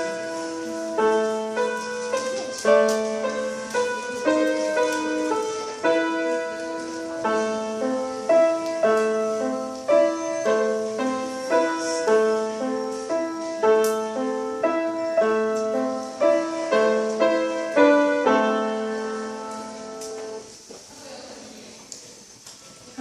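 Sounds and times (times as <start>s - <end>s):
child playing piano melody: 0.0s - 20.6s.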